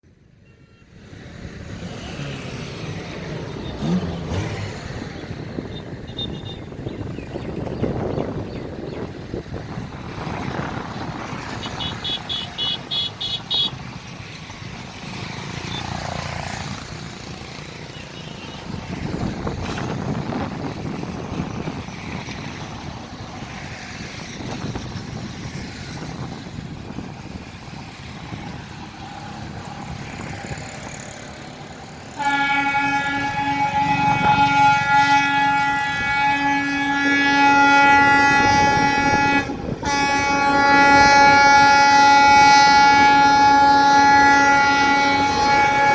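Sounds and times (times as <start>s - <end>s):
locomotive horn blast: 0.3s - 1.2s, 1.8s - 14.0s, 15.5s - 45.9s
freight train rumbling: 1.0s - 45.9s.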